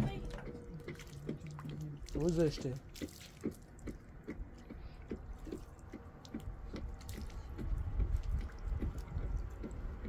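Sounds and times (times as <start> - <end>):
water dripping into water: 0.0 - 10.0.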